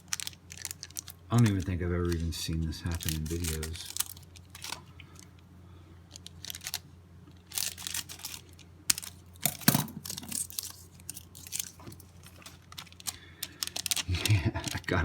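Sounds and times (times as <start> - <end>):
cards being handled: 0.0 - 5.3, 6.1 - 15.0
foil wrapper crinkling and tearing: 0.0 - 5.4, 6.1 - 15.0.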